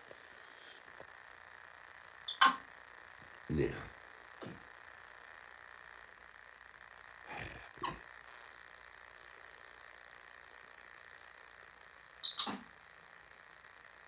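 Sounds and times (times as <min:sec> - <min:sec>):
faint room hiss: 0:00.0 - 0:14.0.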